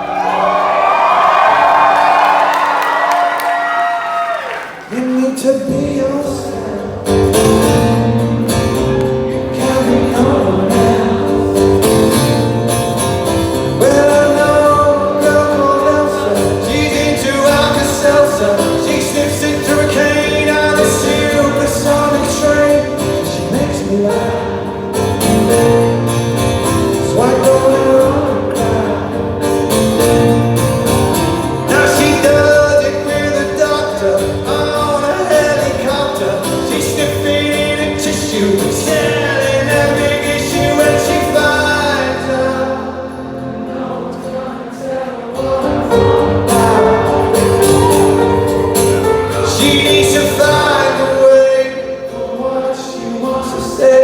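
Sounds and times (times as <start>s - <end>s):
acoustic guitars: 3.6s - 54.0s
man singing: 4.8s - 54.0s.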